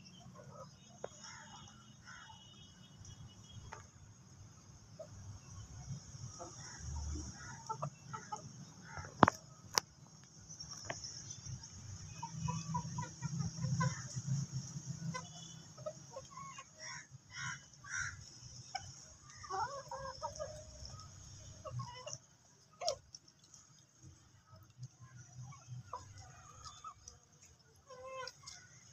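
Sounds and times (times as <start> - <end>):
chickens clucking: 4.5 - 9.9, 10.6 - 28.9.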